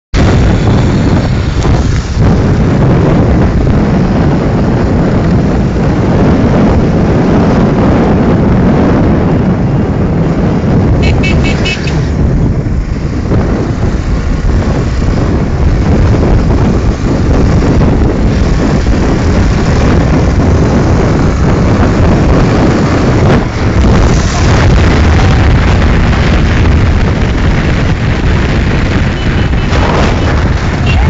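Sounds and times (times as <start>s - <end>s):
road noise: 0.0s - 31.0s
wind buffeting microphone: 0.1s - 31.0s
motorcycle engine: 0.2s - 31.0s.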